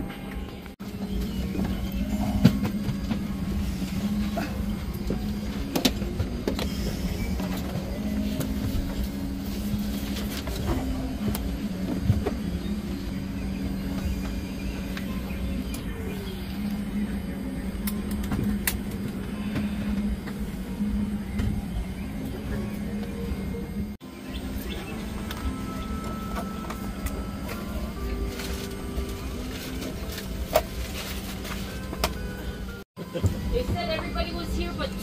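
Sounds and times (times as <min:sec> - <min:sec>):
low cabin hum: 0:00.0 - 0:35.0.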